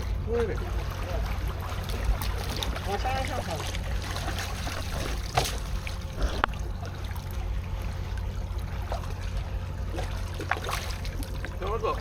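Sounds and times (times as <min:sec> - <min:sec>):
steady low rumble: 0:00.0 - 0:12.0
water trickling and splashing: 0:00.0 - 0:12.0.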